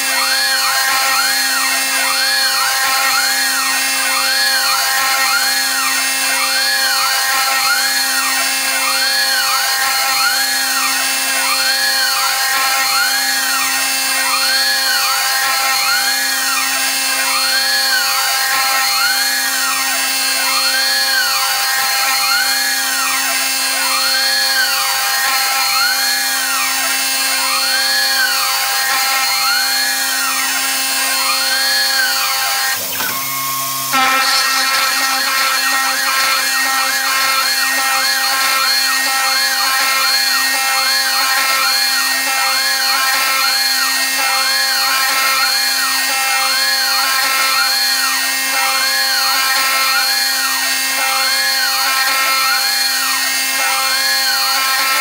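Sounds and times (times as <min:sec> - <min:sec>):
end mill cutting metal: 0:00.0 - 0:55.0
router spindle whine: 0:00.0 - 0:55.0.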